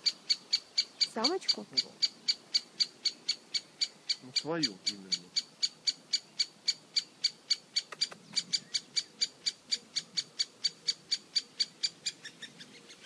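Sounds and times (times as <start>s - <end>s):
woodpecker calling: 0.0s - 13.0s.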